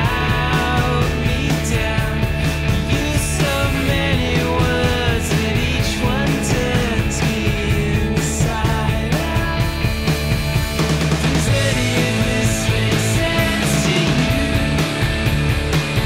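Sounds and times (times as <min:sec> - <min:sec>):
rock band music: 0:00.0 - 0:16.0.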